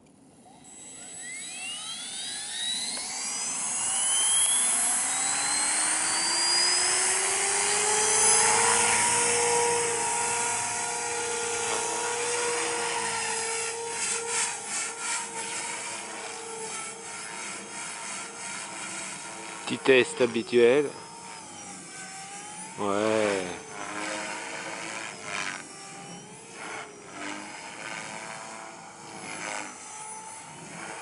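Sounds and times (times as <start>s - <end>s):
model helicopter rotor whine: 0.0s - 31.0s.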